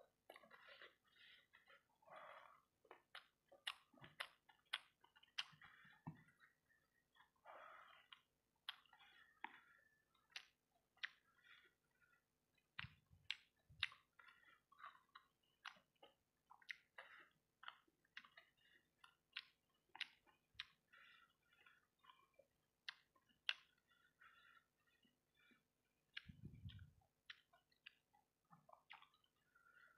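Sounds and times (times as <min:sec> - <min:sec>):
wet chewing and mouth smacks: 0:00.2 - 0:29.9.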